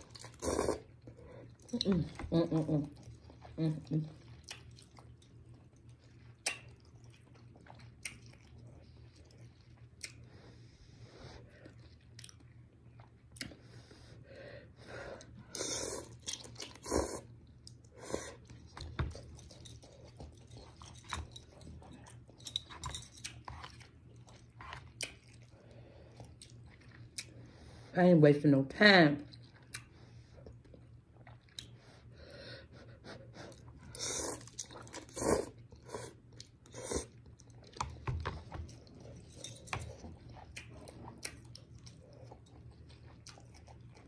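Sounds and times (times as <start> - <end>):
person chewing noodles: 0.0 - 27.9, 29.2 - 44.0.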